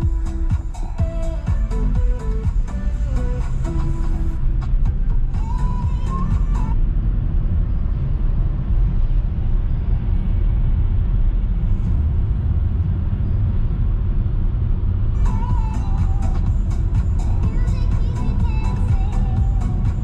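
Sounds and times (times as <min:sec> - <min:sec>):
car road noise: 0:00.0 - 0:20.0.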